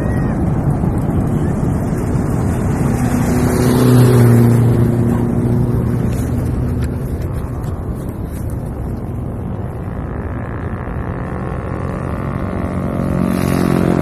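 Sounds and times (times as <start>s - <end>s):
vehicle engine hum: 0.0s - 14.0s
wind rumbling on microphone: 0.0s - 14.0s.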